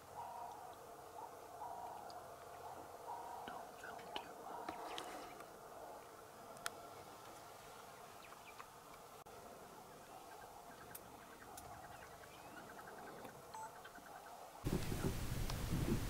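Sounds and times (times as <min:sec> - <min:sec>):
wild birds chirping: 0:00.0 - 0:15.2.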